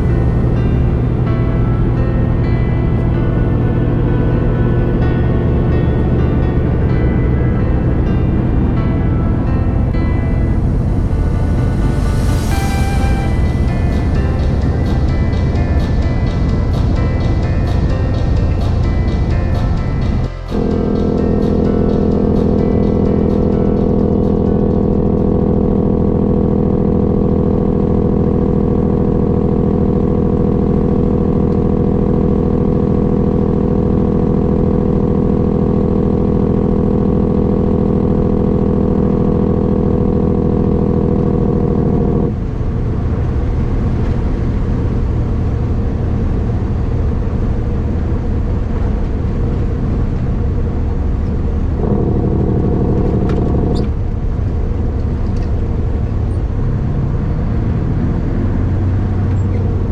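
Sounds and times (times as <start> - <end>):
road noise: 0.0 - 59.9
vehicle engine droning: 0.0 - 59.9.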